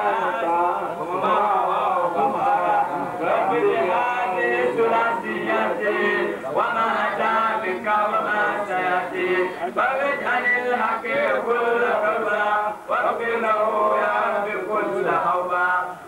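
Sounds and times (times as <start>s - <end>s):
men chanting a devotional song: 0.0s - 16.0s.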